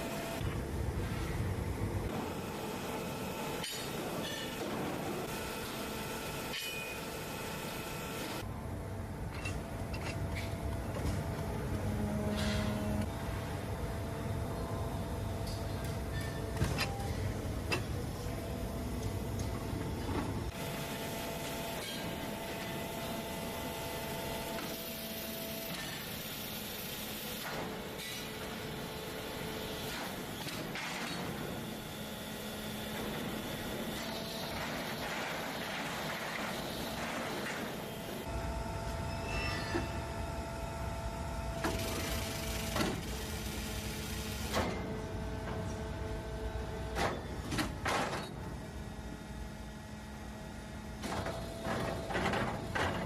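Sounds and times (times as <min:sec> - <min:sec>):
factory machinery humming: 0:00.0 - 0:53.0.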